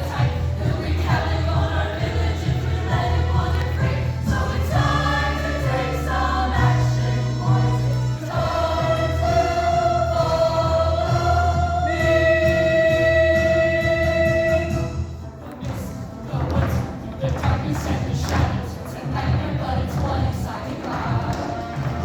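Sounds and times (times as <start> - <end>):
choir singing: 0.0 - 14.7, 18.1 - 22.0
instrumental accompaniment: 0.0 - 22.0.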